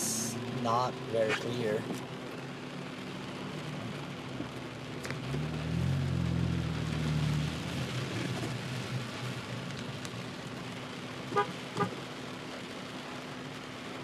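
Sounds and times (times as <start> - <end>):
low engine hum: 0.0 - 14.0
rain pattering on windshield: 0.0 - 14.0.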